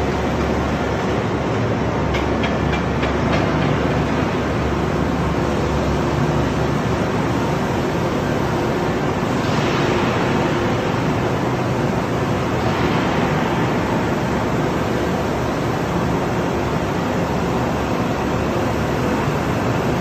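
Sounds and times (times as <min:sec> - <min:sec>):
industrial machinery hum and rumble: 0:00.0 - 0:20.0.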